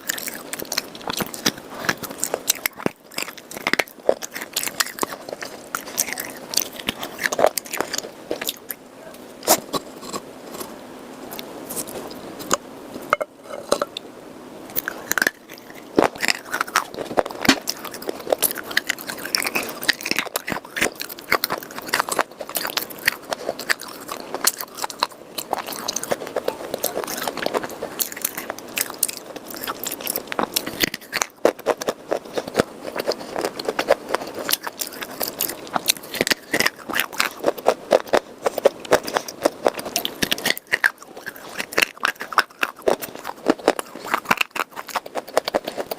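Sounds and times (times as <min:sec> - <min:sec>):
crunchy chewing: 0:00.0 - 0:14.1, 0:14.7 - 0:45.9.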